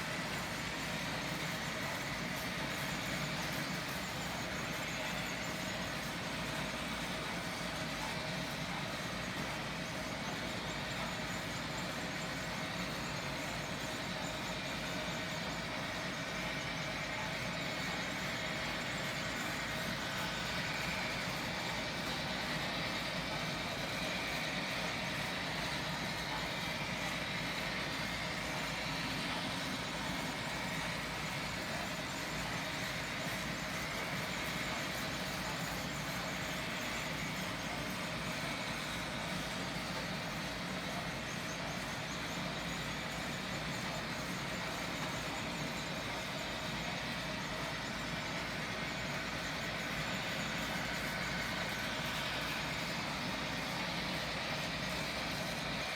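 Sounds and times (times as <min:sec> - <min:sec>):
faint steady whine: 0:00.0 - 0:55.9.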